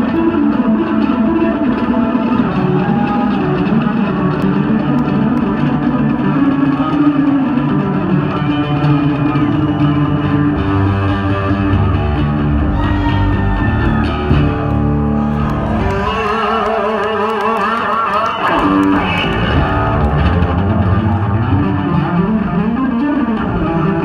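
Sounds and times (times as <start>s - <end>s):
electric bass guitar: 0.0s - 24.0s.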